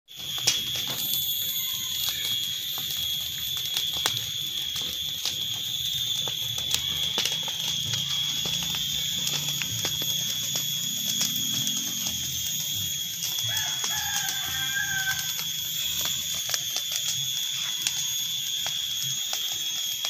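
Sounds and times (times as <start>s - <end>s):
burning leaves crackling: 0.1s - 20.0s
high-pitched drone: 0.1s - 20.0s.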